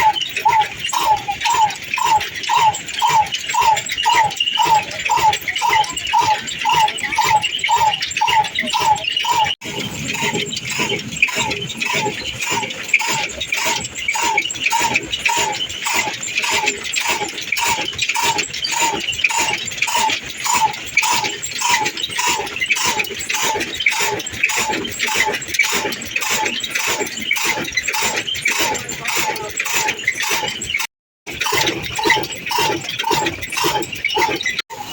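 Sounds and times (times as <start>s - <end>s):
diesel engine running slowly: 0.0s - 34.9s.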